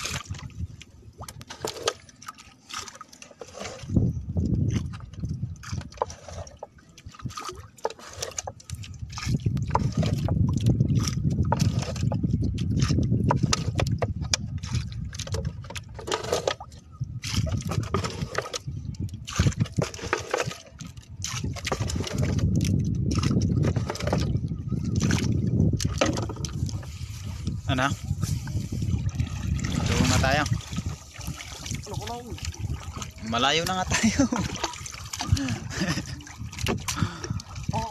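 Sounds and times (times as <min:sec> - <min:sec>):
boat low rumble: 0:00.0 - 0:37.9
water slapping against boat hull: 0:00.0 - 0:37.9.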